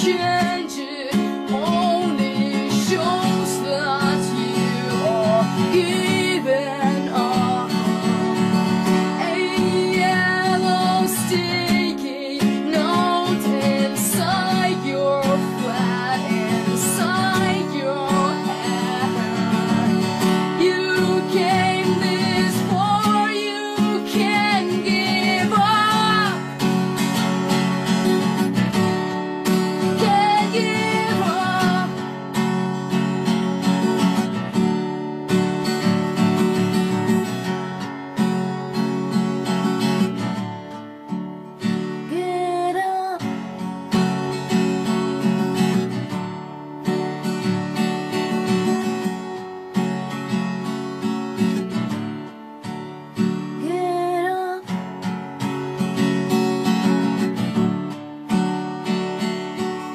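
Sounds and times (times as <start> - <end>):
strummed acoustic guitar music: 0.0 - 59.9.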